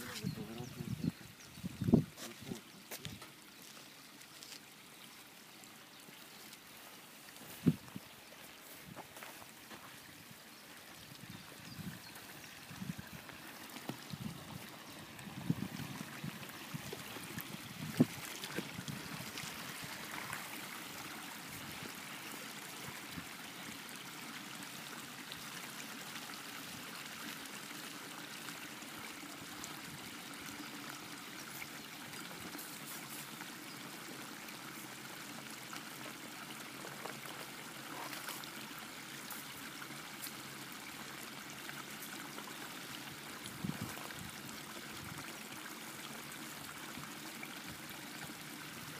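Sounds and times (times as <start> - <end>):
stream water rushing: 0.0 - 48.9.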